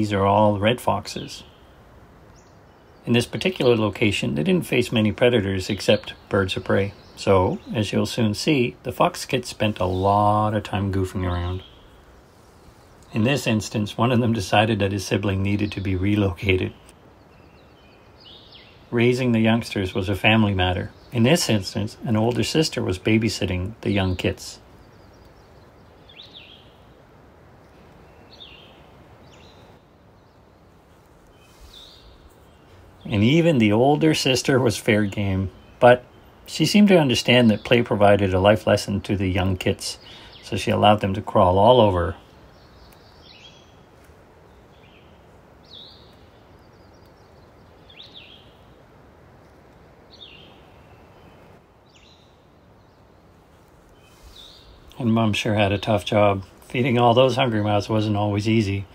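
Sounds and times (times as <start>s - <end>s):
steady low hiss: 0.0s - 58.9s.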